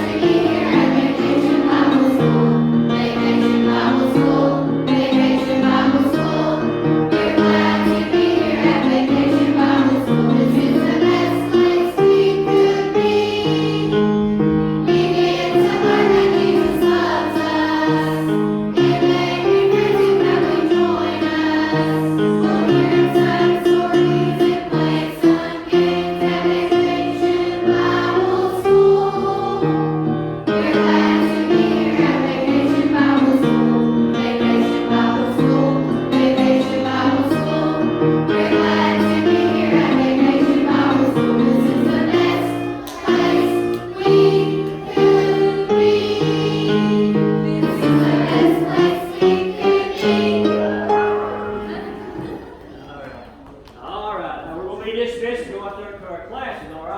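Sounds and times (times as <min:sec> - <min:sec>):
group singing a christian song: 0:00.0 - 0:52.8.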